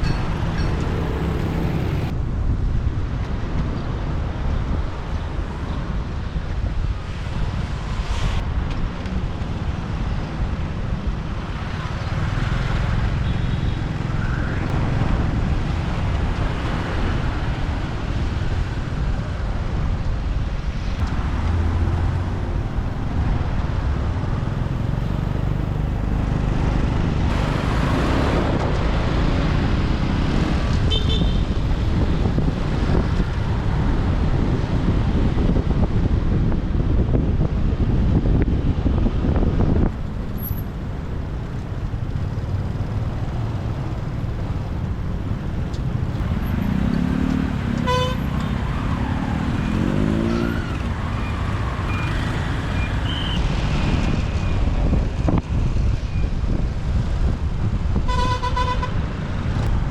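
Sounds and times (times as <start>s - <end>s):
traffic engines: 0.0s - 59.9s.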